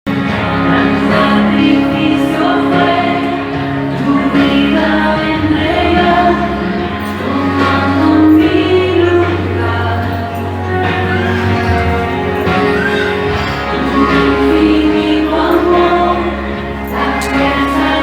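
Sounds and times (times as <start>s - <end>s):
instrumental backing with bass: 0.1s - 18.0s
voices singing worship song: 0.1s - 18.0s.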